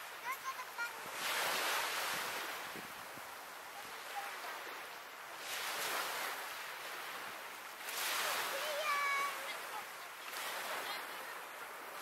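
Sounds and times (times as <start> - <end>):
waves washing onto shingle: 0.0 - 12.0.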